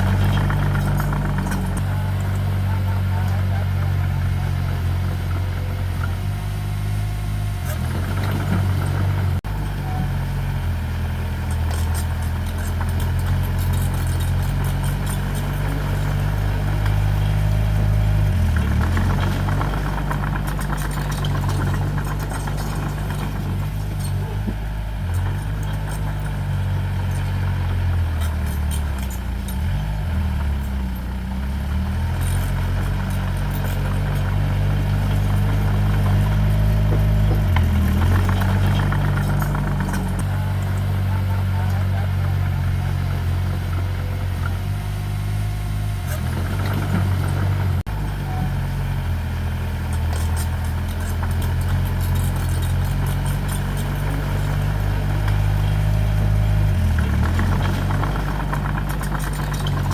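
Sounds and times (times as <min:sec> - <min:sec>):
heavy equipment engine running: 0:00.0 - 0:59.9.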